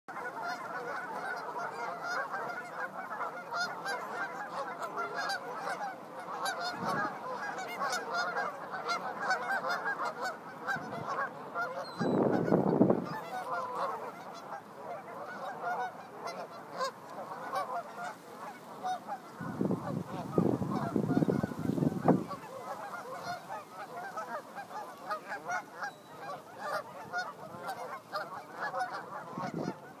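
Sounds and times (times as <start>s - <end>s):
geese honking: 0.1s - 30.0s.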